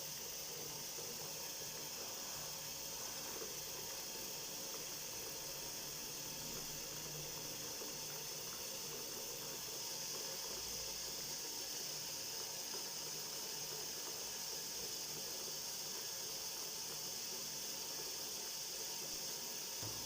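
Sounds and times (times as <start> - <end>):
tap water running: 0.0 - 20.0.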